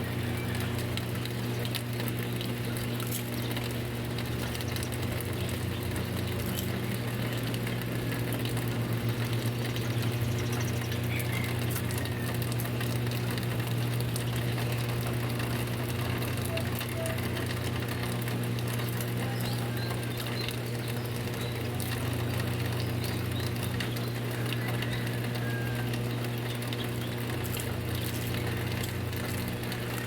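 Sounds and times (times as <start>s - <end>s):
low motor hum: 0.0s - 30.0s
steady rain falling: 0.0s - 30.0s.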